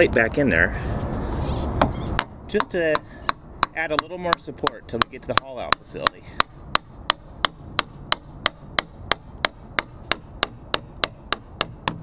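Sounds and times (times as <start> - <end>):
hammer tapping on metal: 2.2 - 12.0.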